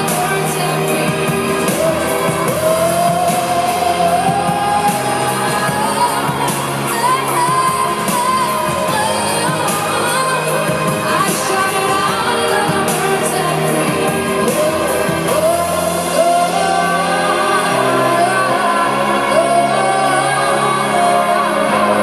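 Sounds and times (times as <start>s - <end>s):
full band playing: 0.0s - 22.0s.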